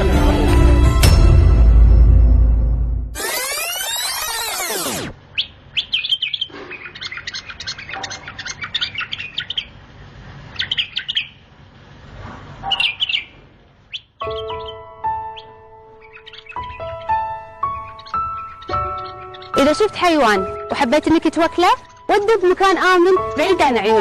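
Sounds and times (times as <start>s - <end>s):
small birds chirping: 3.2s - 11.6s, 12.6s - 24.0s.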